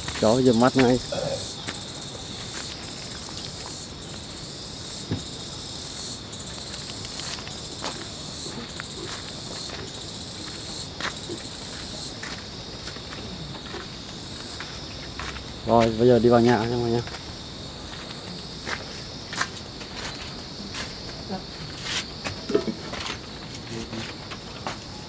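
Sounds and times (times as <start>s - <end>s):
insects chorus pulsing: 0.0s - 25.0s.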